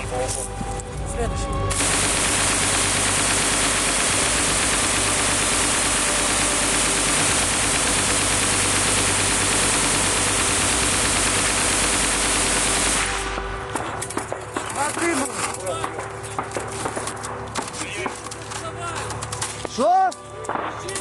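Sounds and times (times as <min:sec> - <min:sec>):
machine gun firing: 0:01.7 - 0:19.6, 0:20.5 - 0:21.0.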